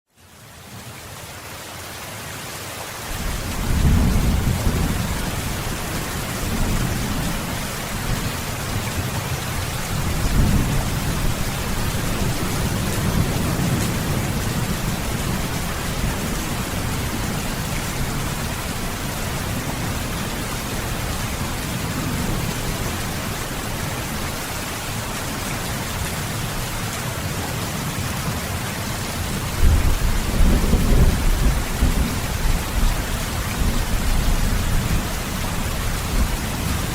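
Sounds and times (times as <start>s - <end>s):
heavy rain falling: 0.2s - 36.9s.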